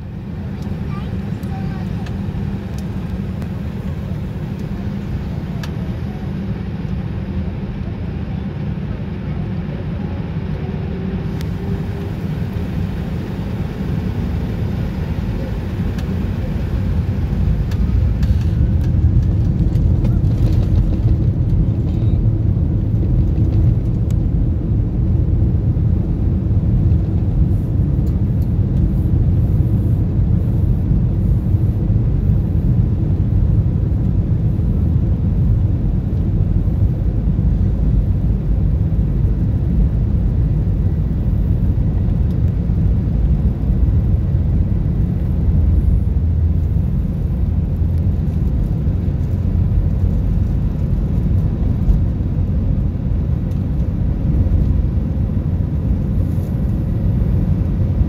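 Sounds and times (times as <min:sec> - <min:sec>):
wheels rumbling on runway: 0:00.0 - 0:58.0.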